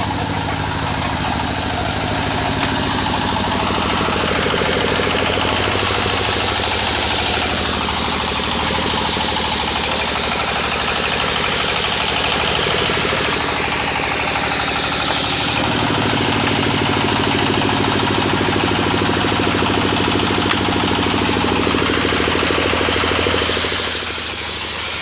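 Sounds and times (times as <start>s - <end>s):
chainsaw engine running: 0.0s - 25.0s.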